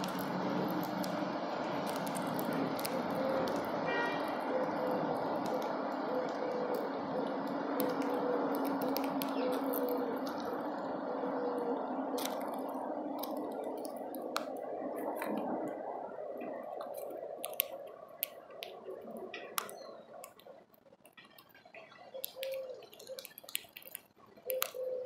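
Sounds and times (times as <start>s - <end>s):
low hooting notes: 0.0s - 20.1s
birds pecking seed: 0.0s - 25.0s.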